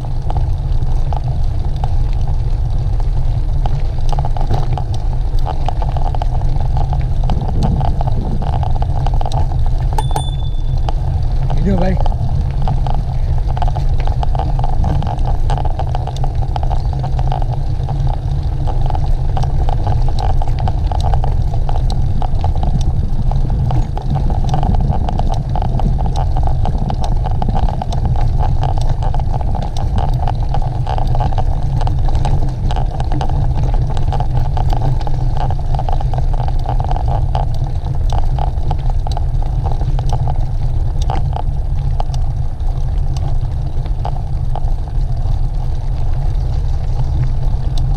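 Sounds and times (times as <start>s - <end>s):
clicks and rattles over rough ground: 0.0s - 47.9s
wind rumble on microphone: 0.0s - 47.9s.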